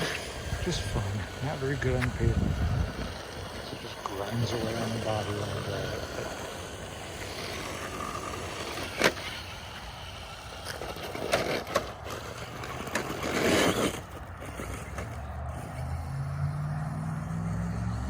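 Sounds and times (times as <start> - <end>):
toy truck tyres scraping body: 0.0 - 18.0.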